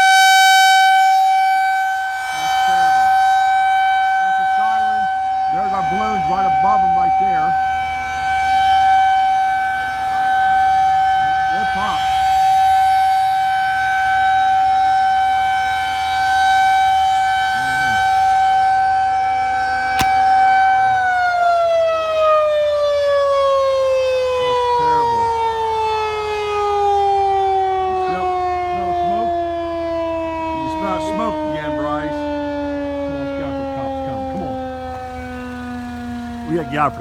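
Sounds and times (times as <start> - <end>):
warning siren winding down: 0.0 - 37.0.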